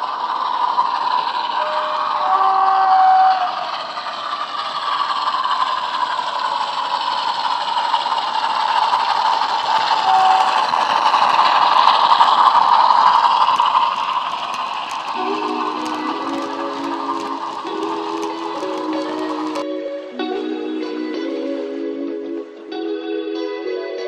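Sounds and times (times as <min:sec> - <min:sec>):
model train diesel engine sound: 0:00.0 - 0:23.1.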